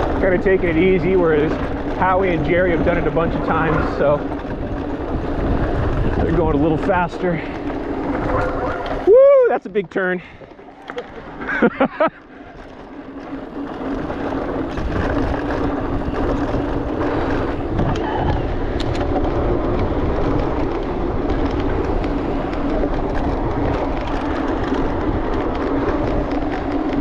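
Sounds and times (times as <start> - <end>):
bike clicks and rattles: 0.0 - 27.0
tyres rolling on dirt trail: 0.0 - 27.0
wind rushing over camera: 0.0 - 27.0.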